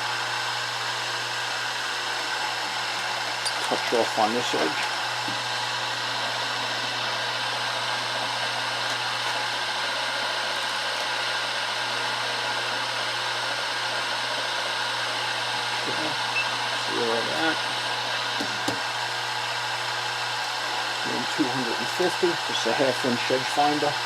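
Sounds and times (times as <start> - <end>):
milling machine humming with whine: 0.0 - 24.0.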